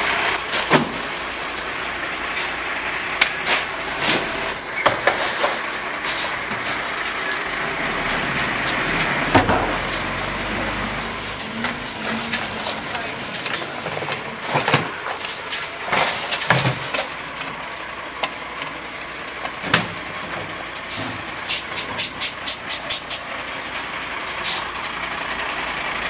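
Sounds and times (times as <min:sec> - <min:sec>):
garbage truck running: 0:00.0 - 0:26.0.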